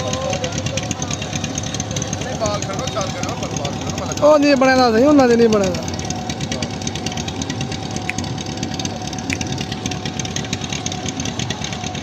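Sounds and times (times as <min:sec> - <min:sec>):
engine running with clatter: 0:00.0 - 0:12.0.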